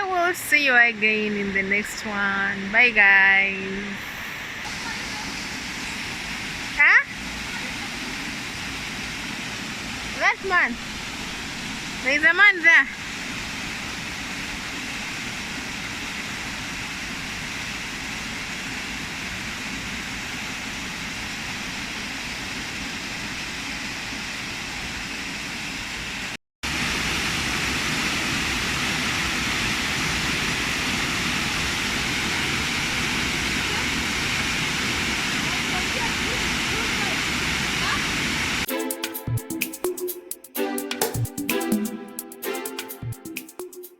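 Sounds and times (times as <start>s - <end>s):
waterfall rushing: 2.9s - 26.1s, 26.7s - 39.6s.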